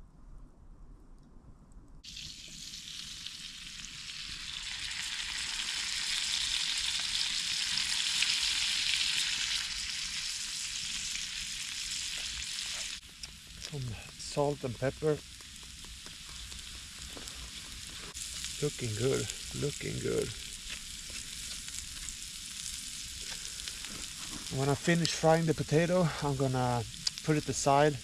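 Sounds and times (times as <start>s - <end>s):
potatoes sizzling in a pan: 2.0s - 28.0s.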